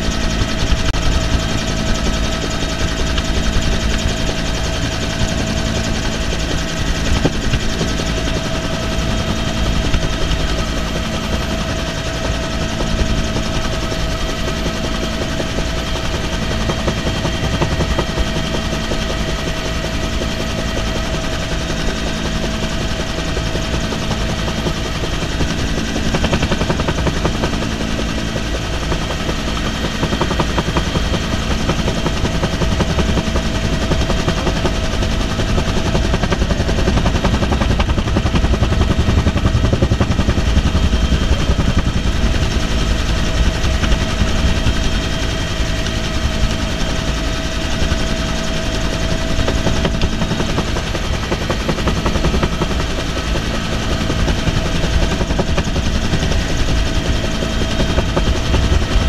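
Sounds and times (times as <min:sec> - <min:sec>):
helicopter rotor chop: 0:00.0 - 0:59.0
high turbine whine: 0:00.0 - 0:59.0.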